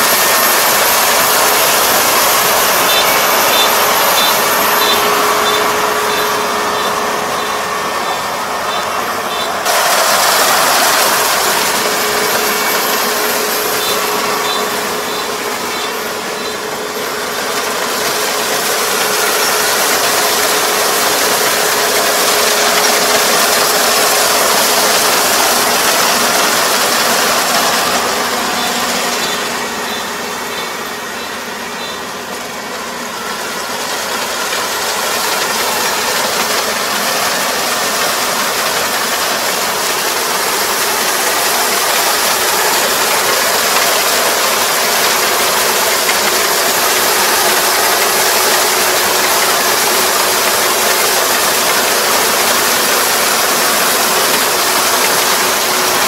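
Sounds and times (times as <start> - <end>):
steady hum: 0.0 - 49.8
combine harvester machinery: 0.0 - 56.0.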